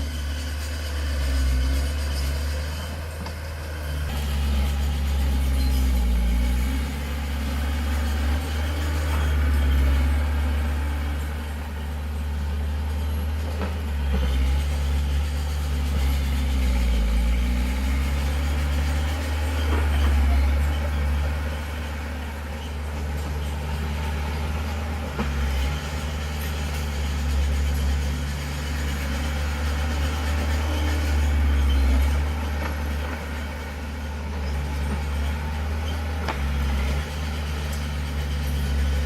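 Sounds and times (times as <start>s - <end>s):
heavy diesel engine revving: 0.0s - 39.0s.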